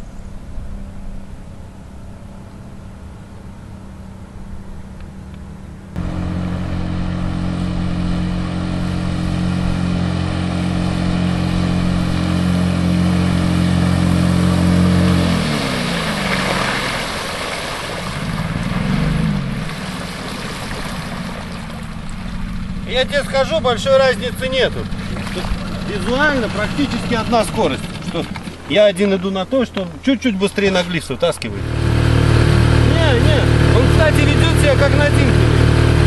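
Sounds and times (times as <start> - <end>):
outboard motor droning: 0.0 - 36.0.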